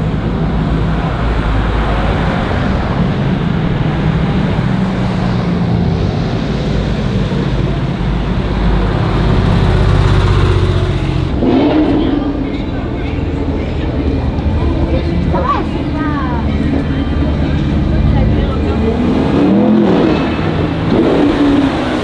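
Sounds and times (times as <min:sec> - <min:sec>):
car engines in traffic: 0:00.0 - 0:22.0
car passing close: 0:00.0 - 0:22.0.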